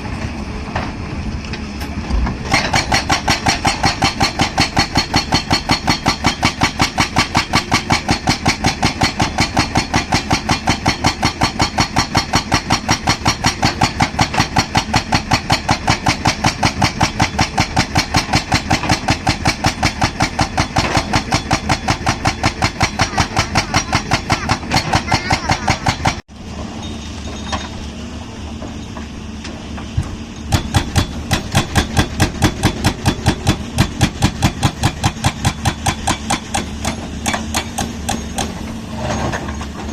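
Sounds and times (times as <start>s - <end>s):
diesel engine running: 0.0s - 39.9s
hydraulic breaker hammering: 2.4s - 26.2s, 30.5s - 38.8s.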